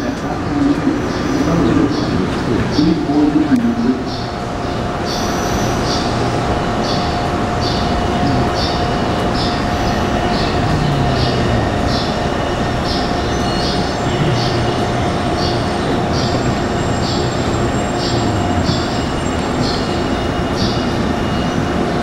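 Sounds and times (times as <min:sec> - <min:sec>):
train rumble with motor tone: 0:00.0 - 0:22.0.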